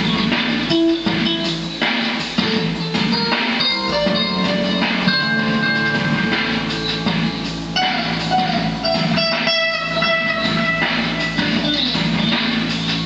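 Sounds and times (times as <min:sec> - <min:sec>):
backing track: 0:00.0 - 0:13.0
electric guitar with delay: 0:02.4 - 0:13.0.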